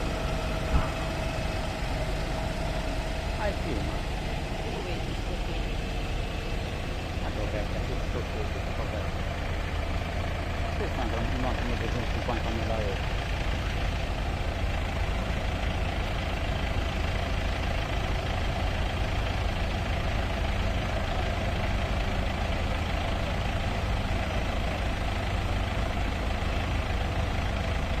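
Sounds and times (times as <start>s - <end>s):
tractor engine droning: 0.0s - 28.0s.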